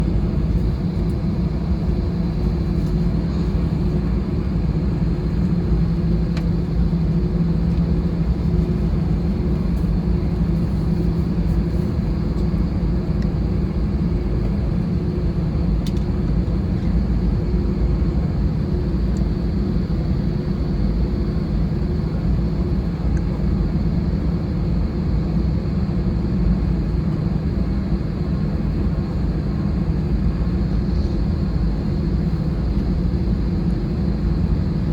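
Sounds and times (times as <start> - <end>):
airplane cabin engine hum: 0.0 - 34.9.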